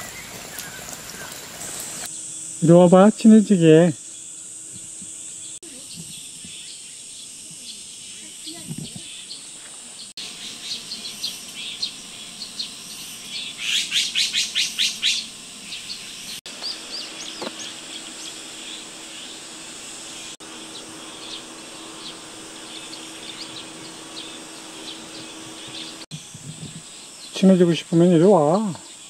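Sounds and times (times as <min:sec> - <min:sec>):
high insect buzz: 0:00.0 - 0:29.0
small birds chirping: 0:00.0 - 0:29.0.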